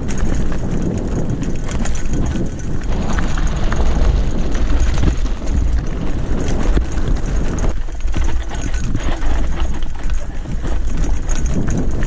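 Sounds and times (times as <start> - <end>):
bike rattling over rocks: 0.0 - 12.0
tyres crunching over gravel: 0.0 - 12.0
wind rumble on microphone: 0.0 - 12.0.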